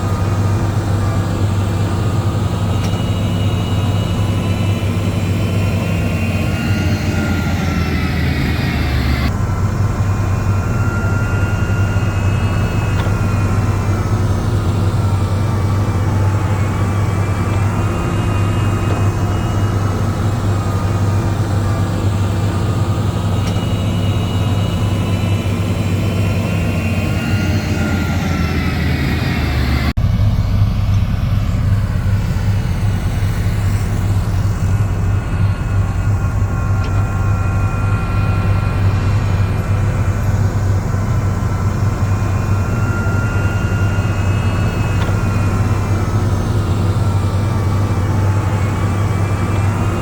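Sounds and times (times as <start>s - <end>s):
heavy diesel engine droning: 0.0s - 50.0s.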